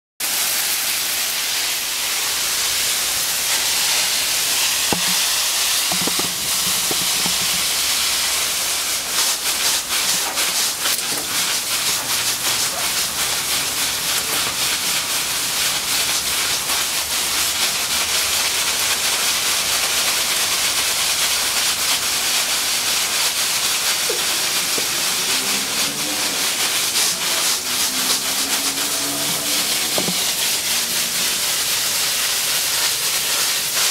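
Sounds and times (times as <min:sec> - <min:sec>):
garden hose spraying water: 0:00.2 - 0:33.9.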